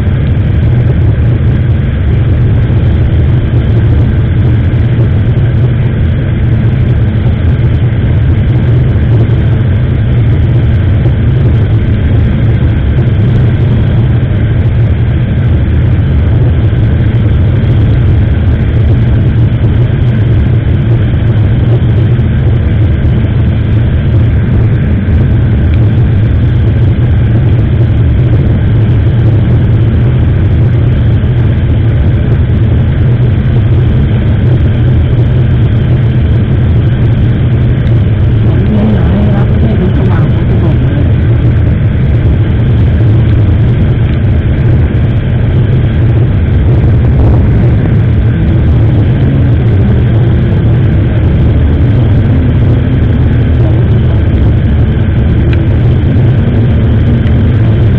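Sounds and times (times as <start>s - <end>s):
motorcycle engine rumble: 0.0s - 57.9s
wind rushing over microphone: 0.0s - 57.9s.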